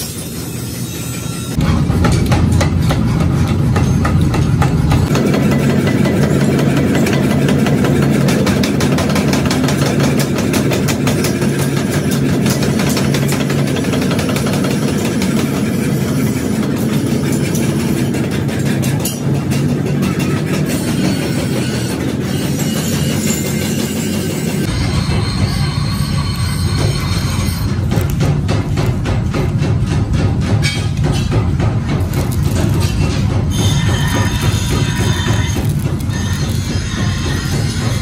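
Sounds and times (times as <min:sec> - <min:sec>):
power hammer metallic clatter: 0:00.0 - 0:38.0.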